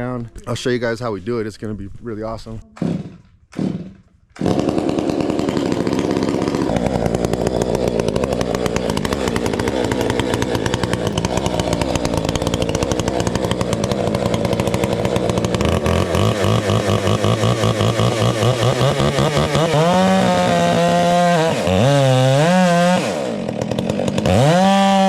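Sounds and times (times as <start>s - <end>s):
chainsaw running: 2.8s - 25.0s.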